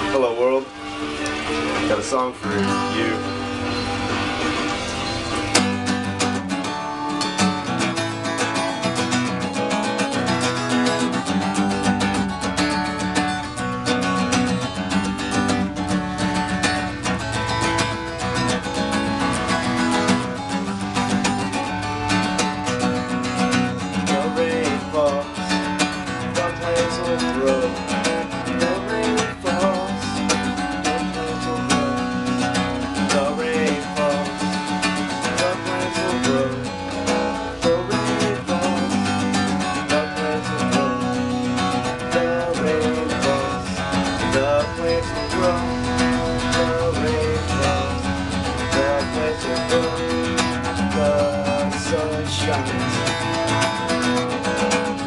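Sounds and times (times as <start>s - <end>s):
acoustic guitar strummed and picked: 0.0s - 55.0s.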